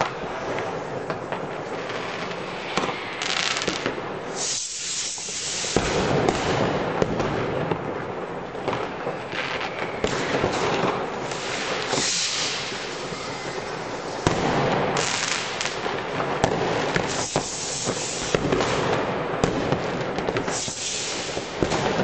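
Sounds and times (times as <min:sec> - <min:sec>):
fireworks crackling and banging: 0:00.0 - 0:22.0
fireworks hissing: 0:00.0 - 0:22.0.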